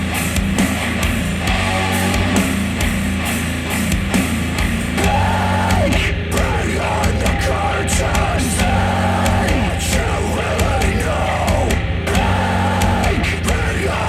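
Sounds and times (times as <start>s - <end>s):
heavy rock music through speakers: 0.0s - 14.0s.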